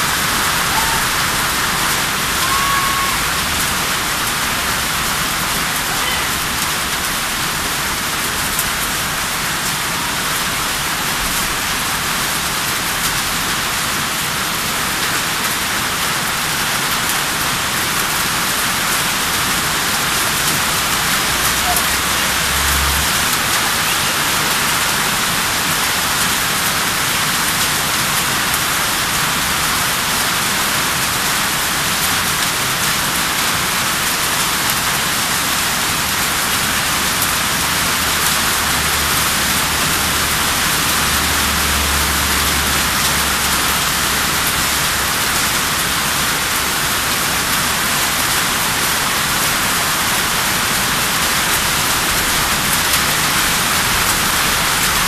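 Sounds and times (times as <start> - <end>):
heavy rain on tarpaulin: 0.0 - 55.0.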